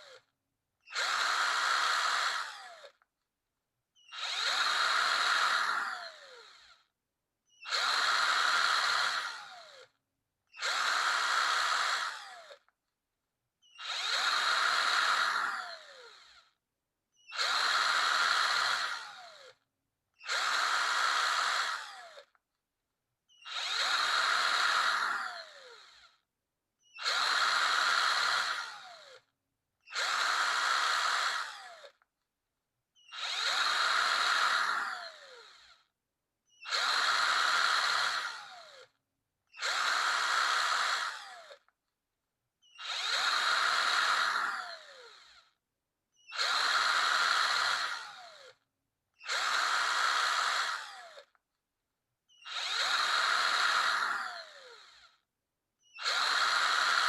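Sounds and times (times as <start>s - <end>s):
power drill whining: 0.0s - 3.1s, 4.0s - 6.9s, 7.5s - 12.8s, 13.6s - 19.6s, 20.2s - 22.4s, 23.3s - 32.1s, 33.0s - 35.9s, 36.5s - 41.8s, 42.6s - 48.6s, 49.2s - 51.4s, 52.3s - 55.2s, 55.8s - 57.0s.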